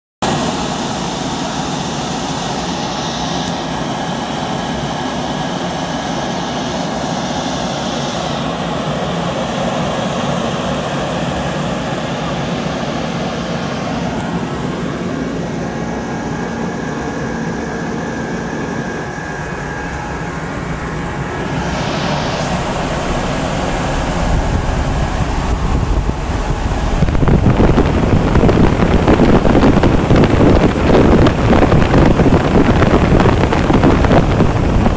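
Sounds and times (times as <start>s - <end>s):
fan rushing air: 0.2s - 34.9s
low even hum: 0.2s - 34.9s.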